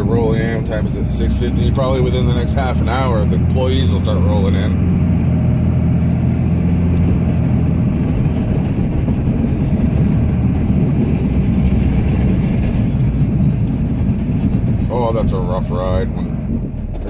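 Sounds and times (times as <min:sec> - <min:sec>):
diesel engine rumbling: 0:00.0 - 0:17.0
truck and plow jolting: 0:00.0 - 0:17.0.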